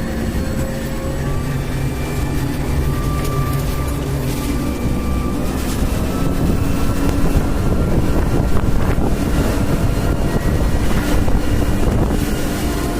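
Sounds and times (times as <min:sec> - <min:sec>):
crane engine rumbling: 0:00.0 - 0:12.9
wind noise on microphone: 0:00.0 - 0:12.9.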